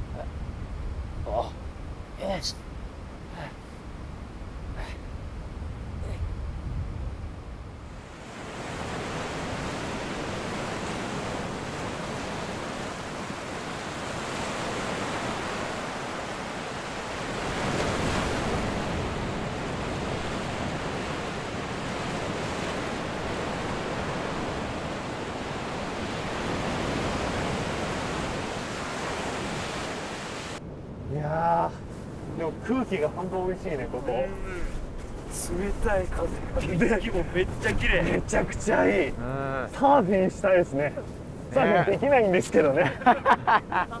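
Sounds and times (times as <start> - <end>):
ocean surf breaking: 7.8 - 44.0.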